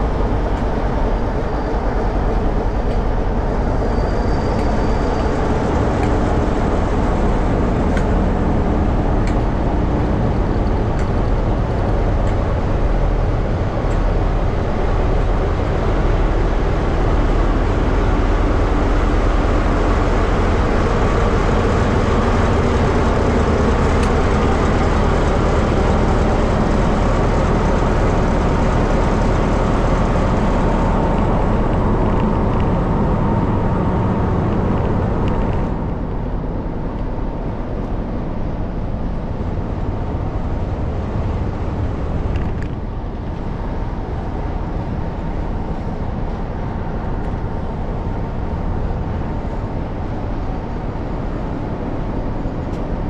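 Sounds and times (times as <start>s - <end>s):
diesel locomotive engines droning: 0.0s - 53.0s.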